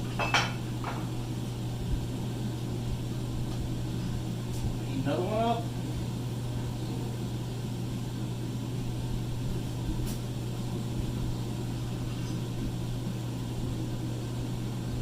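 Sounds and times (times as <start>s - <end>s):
forge humming and hissing: 0.0s - 15.0s.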